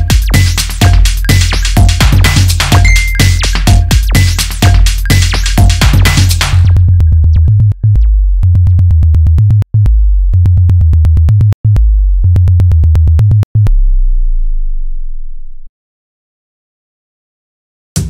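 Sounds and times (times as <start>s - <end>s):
deep synthesizer bassline: 0.0s - 15.7s.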